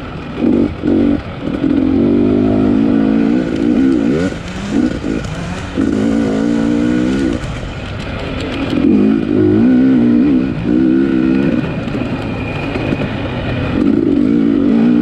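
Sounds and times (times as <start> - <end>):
motocross bike engine revving: 0.4 - 15.0.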